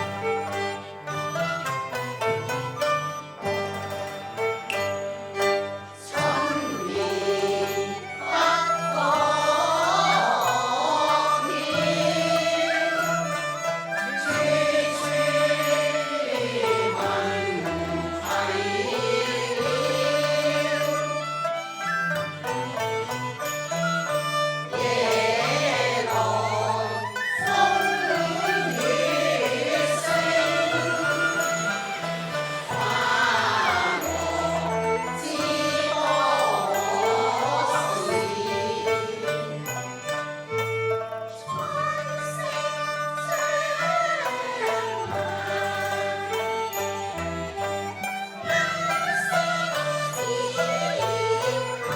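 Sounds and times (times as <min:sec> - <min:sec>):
opera instrumental accompaniment: 0:00.0 - 0:51.9
opera chorus singing: 0:05.4 - 0:21.7, 0:24.3 - 0:40.7, 0:41.4 - 0:51.9.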